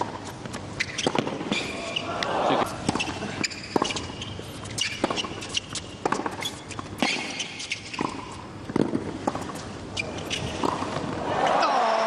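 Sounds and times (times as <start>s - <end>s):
racket hitting tennis ball: 0.0s - 11.9s.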